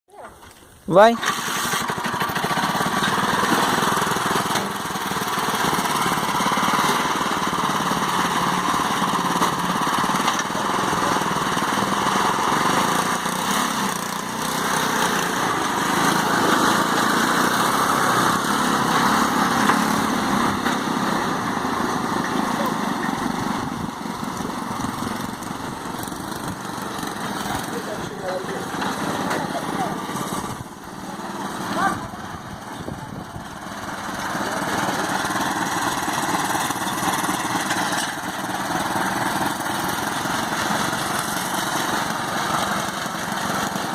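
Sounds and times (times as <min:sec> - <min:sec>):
tractor engine running: 0:00.3 - 0:43.9.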